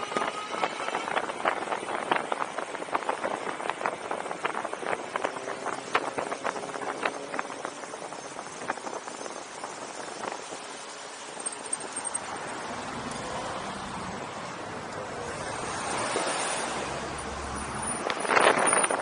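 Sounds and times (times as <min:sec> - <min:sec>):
wind and road noise hiss: 0:00.0 - 0:19.0.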